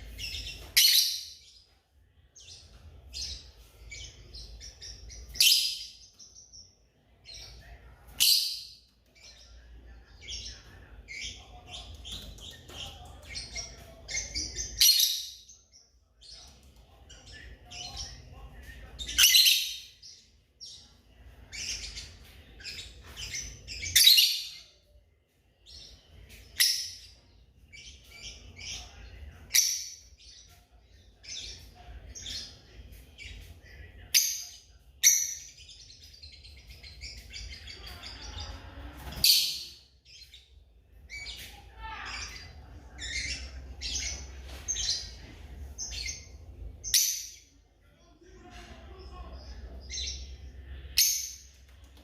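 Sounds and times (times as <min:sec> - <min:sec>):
lovebirds chirping: 0:00.0 - 0:47.6.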